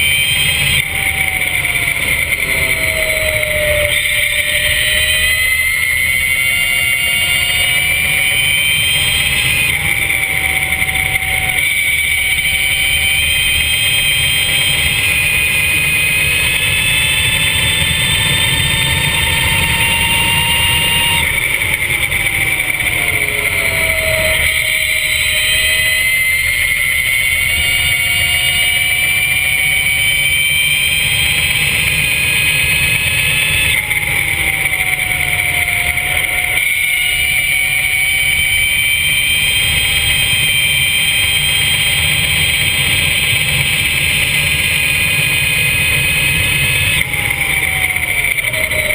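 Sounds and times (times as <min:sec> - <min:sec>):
electric motor whining: 0:00.0 - 0:48.9.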